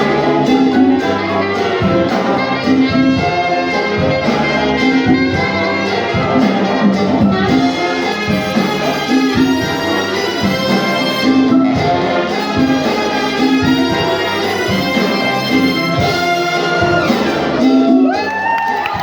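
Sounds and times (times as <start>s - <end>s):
bass: 0.0s - 19.0s
percussion: 0.0s - 19.0s
tenor saxophone solo: 0.0s - 19.0s.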